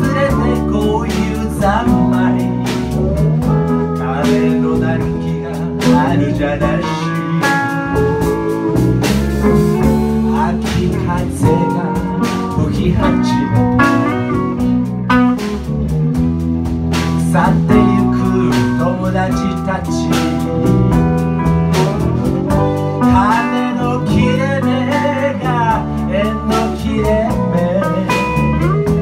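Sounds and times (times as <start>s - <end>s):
drum kit beat: 0.0s - 29.0s
electric guitar: 0.0s - 29.0s.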